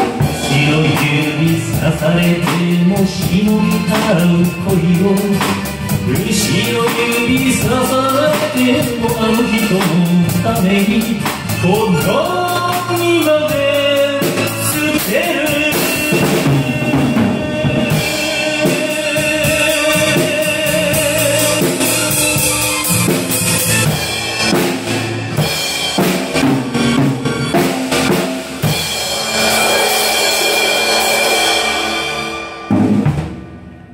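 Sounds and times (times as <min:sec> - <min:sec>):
karaoke backing track: 0:00.0 - 0:32.7
acoustic drum kit: 0:00.0 - 0:33.9.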